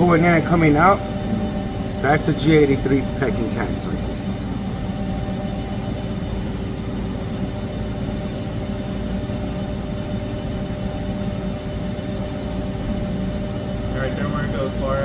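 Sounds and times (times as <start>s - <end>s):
lathe machine hum with tones: 0.0s - 15.0s.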